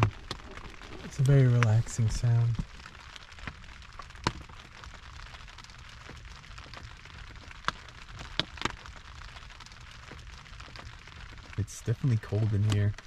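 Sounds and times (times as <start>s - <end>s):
rain hissing on tarp: 0.0s - 13.0s
raindrops hitting tarp: 0.0s - 13.0s.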